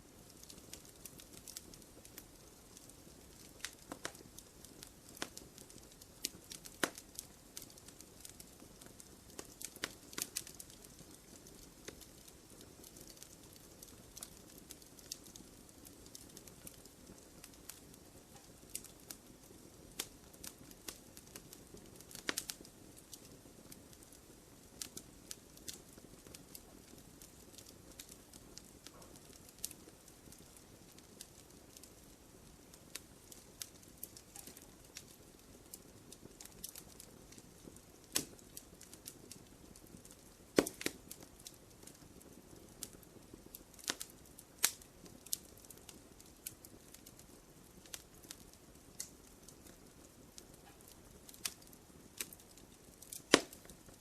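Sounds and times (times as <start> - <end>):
soft hiss of burning: 0.0 - 54.0
wood fire crackling: 0.0 - 54.0.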